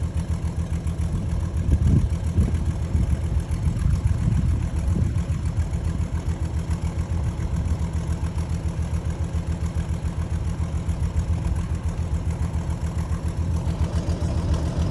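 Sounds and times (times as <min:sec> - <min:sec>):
low pulsing engine rumble: 0:00.0 - 0:14.9.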